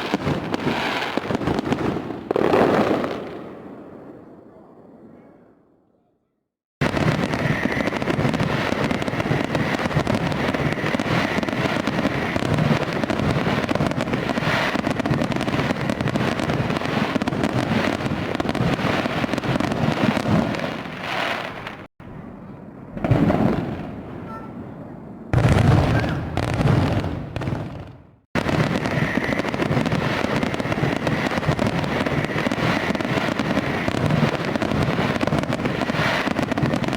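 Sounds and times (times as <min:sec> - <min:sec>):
fireworks banging and crackling: 0:00.0 - 0:04.2, 0:06.8 - 0:21.9, 0:22.9 - 0:24.6, 0:25.3 - 0:36.9.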